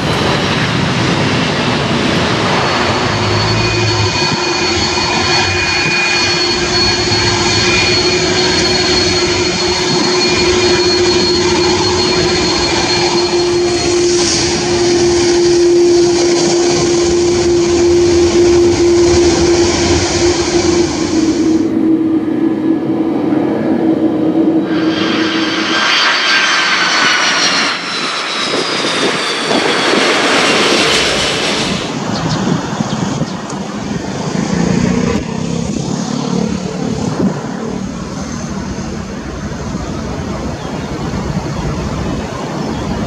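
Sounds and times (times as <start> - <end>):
high whine: 0.0 - 43.0
jet engines running: 0.0 - 43.0.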